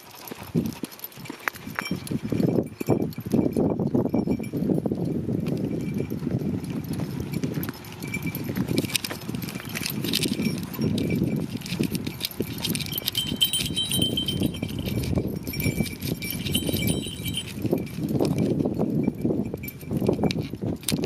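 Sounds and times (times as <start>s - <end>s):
goat bells ringing: 0.0s - 20.8s
footsteps on dirt road: 0.0s - 21.0s
hooves scuffing on dirt: 0.0s - 21.0s.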